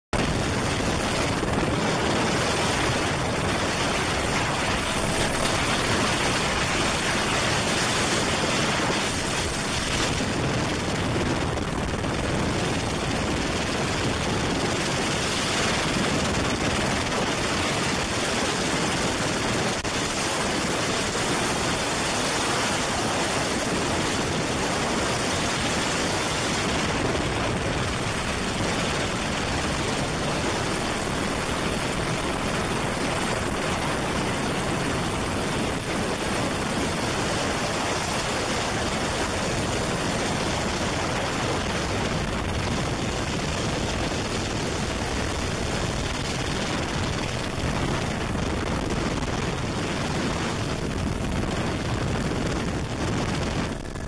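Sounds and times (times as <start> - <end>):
helicopter rotor and engine rush: 0.1 - 54.0.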